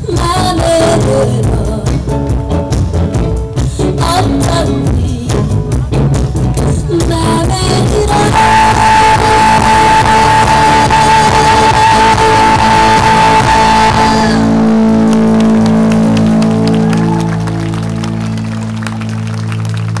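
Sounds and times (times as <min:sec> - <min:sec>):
drums: 0:00.0 - 0:20.0
electric guitar: 0:00.0 - 0:20.0.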